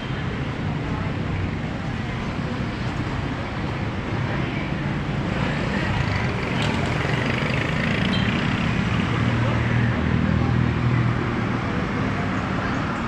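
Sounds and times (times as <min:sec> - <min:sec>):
outdoor traffic noise: 0:00.0 - 0:13.0.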